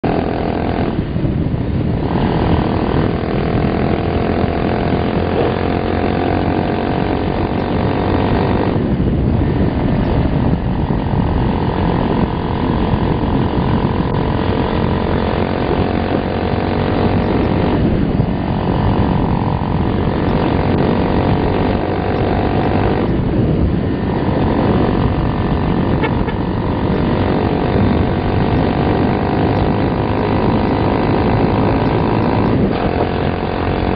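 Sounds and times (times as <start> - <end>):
motorcycle engine accelerating: 0.0 - 33.9
wind rumble on microphone: 0.0 - 33.9.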